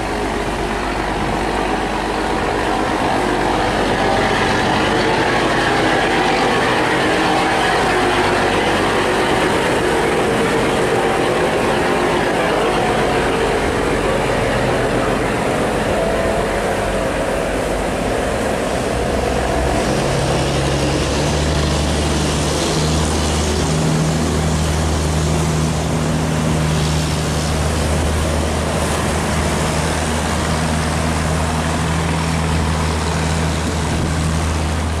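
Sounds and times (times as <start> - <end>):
boat engines running hard: 0.0 - 35.0
churned water rushing: 0.0 - 35.0
low drone of boat engine: 0.0 - 35.0.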